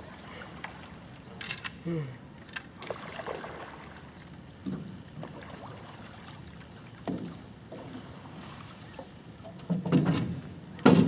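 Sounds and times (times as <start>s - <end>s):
water sloshing: 0.0s - 10.6s.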